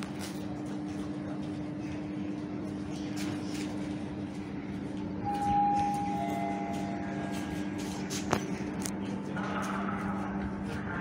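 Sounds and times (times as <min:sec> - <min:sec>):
train running hum: 0:00.0 - 0:11.0.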